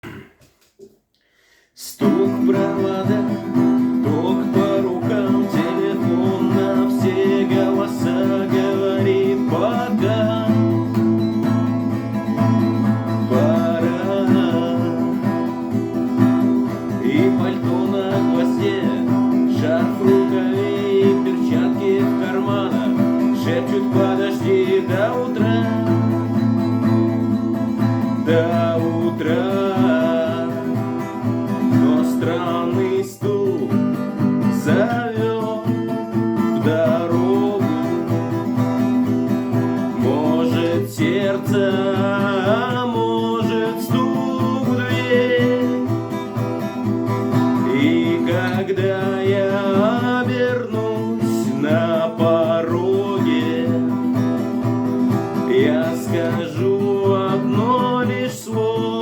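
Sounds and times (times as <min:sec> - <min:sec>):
person singing: 0:01.8 - 0:26.6, 0:27.5 - 0:59.0
acoustic guitar playing: 0:01.8 - 0:59.0.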